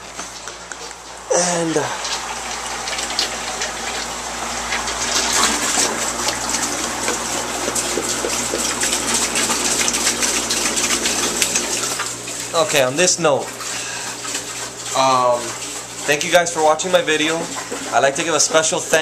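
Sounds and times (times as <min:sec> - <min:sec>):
water pouring into tank: 0:00.0 - 0:19.0.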